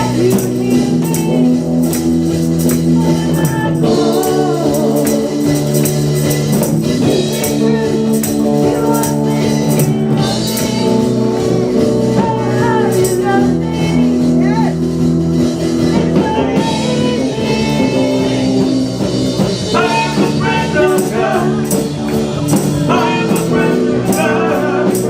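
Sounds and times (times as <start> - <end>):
person singing: 0.0 - 14.8, 15.6 - 25.0
worship band playing: 0.0 - 25.0.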